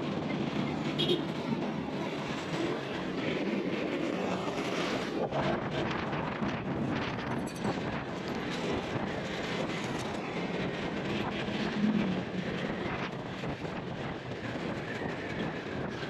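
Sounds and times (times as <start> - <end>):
road noise: 0.0 - 16.0
scooter engine hum: 0.0 - 16.0
wind on microphone: 0.0 - 16.0.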